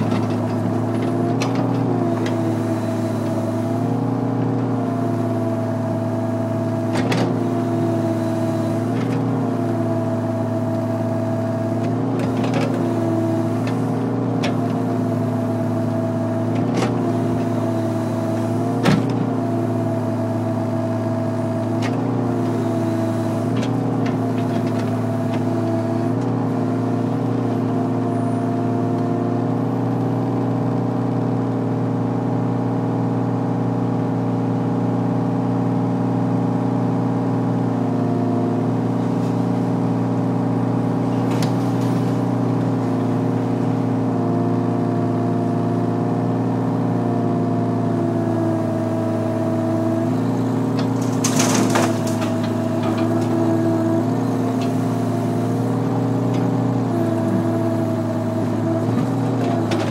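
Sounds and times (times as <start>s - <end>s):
excavator diesel engine running: 0.0s - 33.6s, 34.5s - 59.9s.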